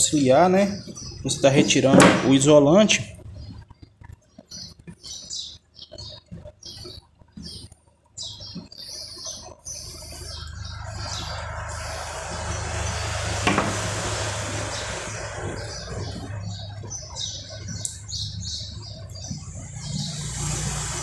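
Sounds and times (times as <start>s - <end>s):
birds chirping: 0.0s - 21.0s
steady noise with low hum: 0.0s - 21.0s.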